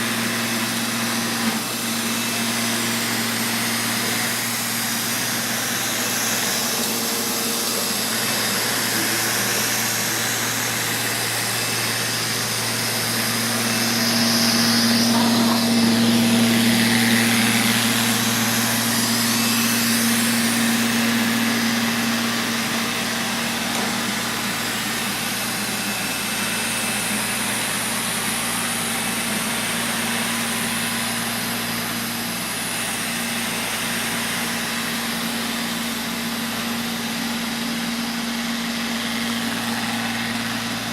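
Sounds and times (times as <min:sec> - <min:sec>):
robot vacuum motor hum: 0:00.0 - 0:40.9.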